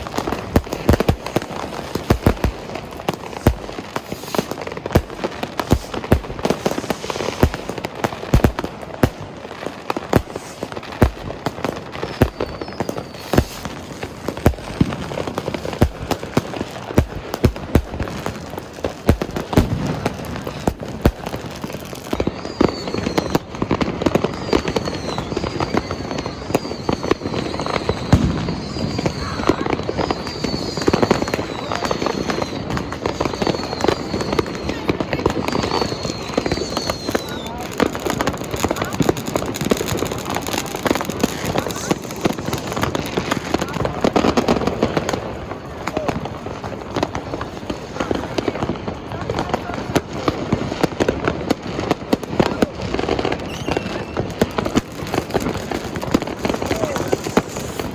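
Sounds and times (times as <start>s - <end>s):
falling firework whistles: 0.0s - 49.2s, 49.9s - 57.9s
fireworks and firecrackers banging: 0.0s - 57.9s.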